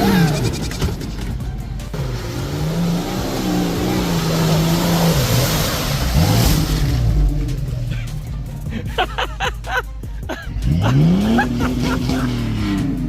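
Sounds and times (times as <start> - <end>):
off-road engine revving: 0.0 - 9.4, 10.3 - 13.0.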